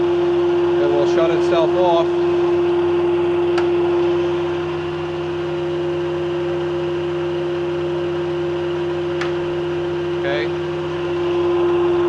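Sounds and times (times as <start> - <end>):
grinder machine hum: 0.0 - 12.0.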